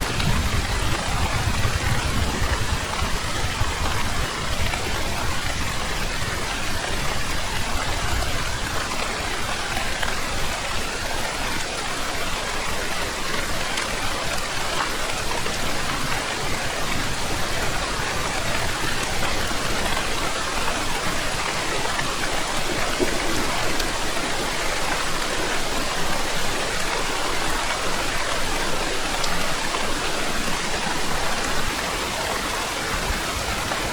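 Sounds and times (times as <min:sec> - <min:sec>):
heavy rainfall: 0:00.0 - 0:33.9.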